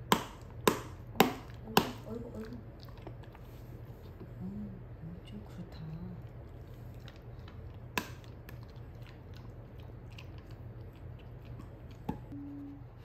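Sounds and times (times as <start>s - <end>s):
dog chewing and crunching treat: 0.4s - 4.3s, 5.2s - 12.3s.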